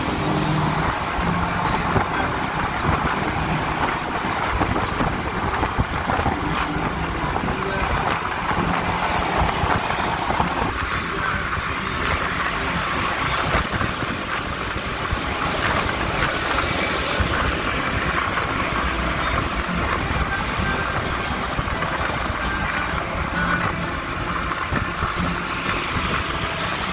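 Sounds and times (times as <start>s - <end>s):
tyre and engine road noise: 0.0s - 26.9s.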